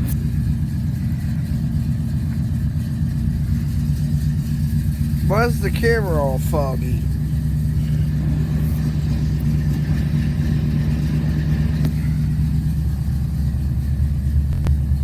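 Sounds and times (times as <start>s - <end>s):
v eight engine idling: 0.0s - 15.0s.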